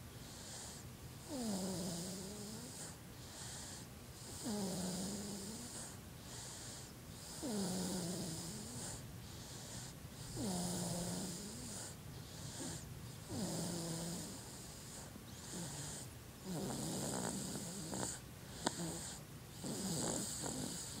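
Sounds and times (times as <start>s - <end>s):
baby snoring: 0.3s - 21.0s.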